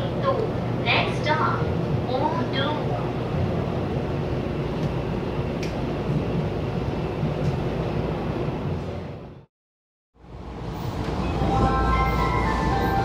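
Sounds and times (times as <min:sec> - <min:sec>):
train rumble on board: 0:00.0 - 0:09.5, 0:10.2 - 0:13.0.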